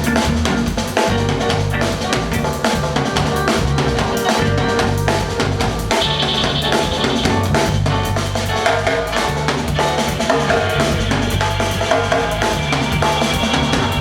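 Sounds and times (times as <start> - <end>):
drum kit rimshots: 0.0 - 14.0
reggae band playing: 0.0 - 14.0
repeating bass line: 0.0 - 14.0.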